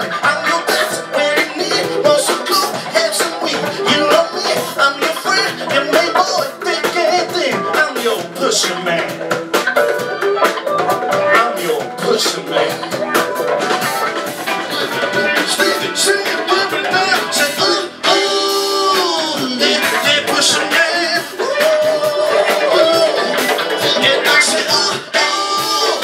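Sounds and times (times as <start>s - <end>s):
man singing: 0.0s - 9.3s, 11.1s - 13.3s, 14.7s - 26.0s
drums: 0.0s - 26.0s
electric guitar: 0.0s - 26.0s.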